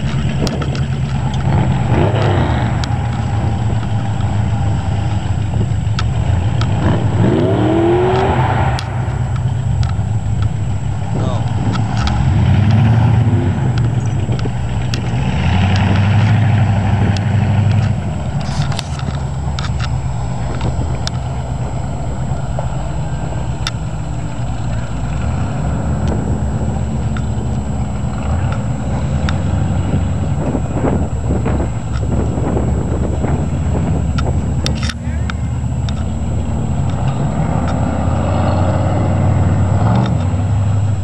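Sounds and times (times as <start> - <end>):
truck engines revving: 0.0 - 41.0.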